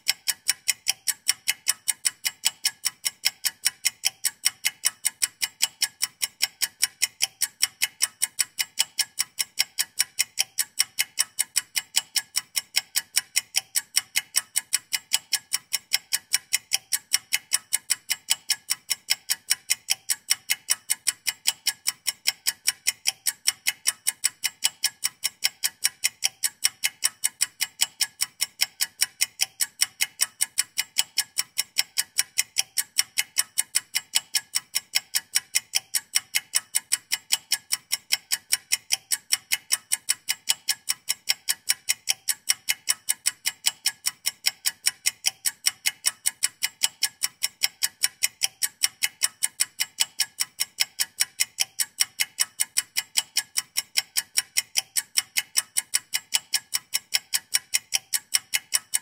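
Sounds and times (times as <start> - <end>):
fast clock ticking: 0.0 - 59.0.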